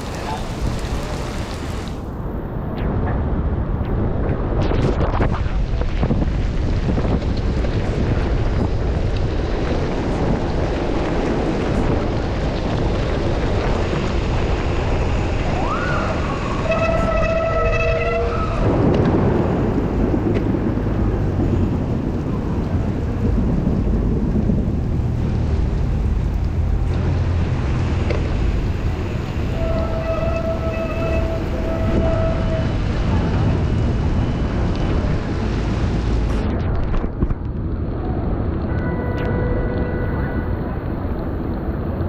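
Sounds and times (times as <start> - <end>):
rain and wet road noise: 0.0 - 42.0
wind rushing on microphone: 0.0 - 42.0.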